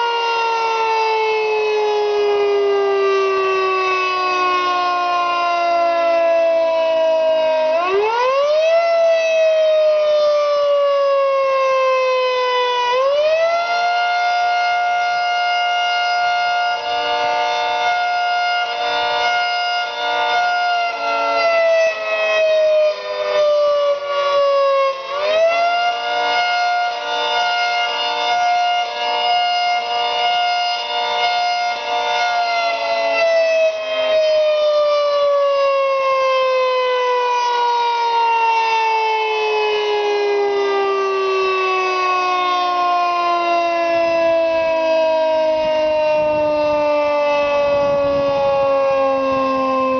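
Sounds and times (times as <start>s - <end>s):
warning siren wailing: 0.0s - 49.9s.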